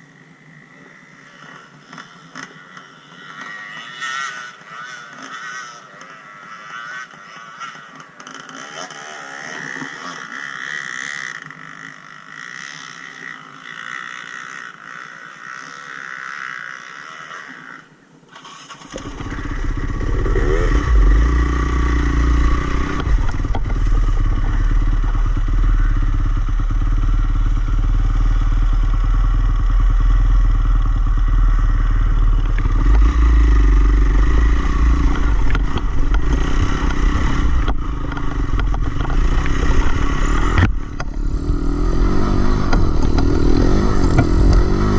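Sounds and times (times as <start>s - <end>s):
dirt bike engine revving: 0.9s - 44.9s.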